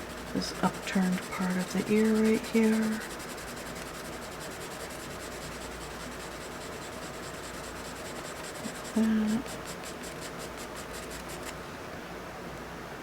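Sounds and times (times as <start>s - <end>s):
charcoal scratching on paper: 0.0s - 11.5s.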